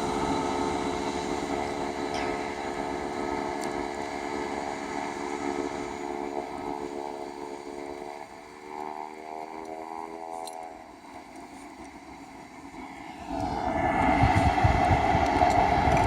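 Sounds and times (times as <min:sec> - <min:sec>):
distant jet engines whining: 0:00.0 - 0:16.0.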